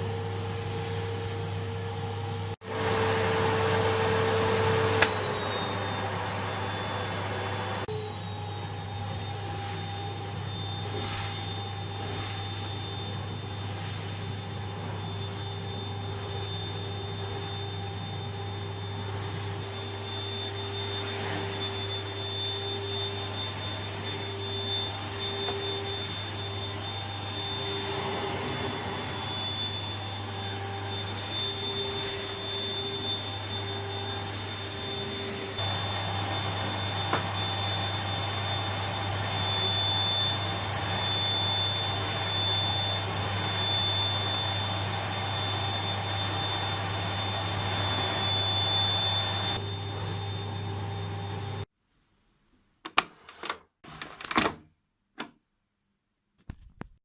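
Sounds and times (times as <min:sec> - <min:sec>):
vacuum cleaner running: 0:00.0 - 0:51.7.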